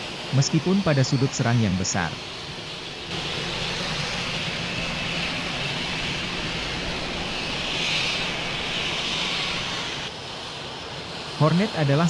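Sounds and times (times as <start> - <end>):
jet engine whine and hiss: 0.0 - 12.0.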